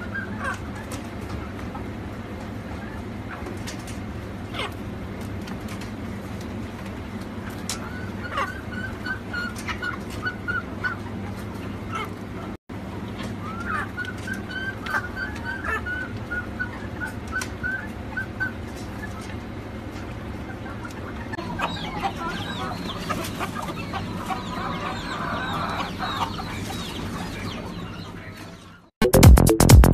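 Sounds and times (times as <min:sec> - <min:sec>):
chicken squawk: 0:00.0 - 0:03.6, 0:04.3 - 0:05.0, 0:07.4 - 0:28.9
chickens clucking: 0:00.0 - 0:28.9.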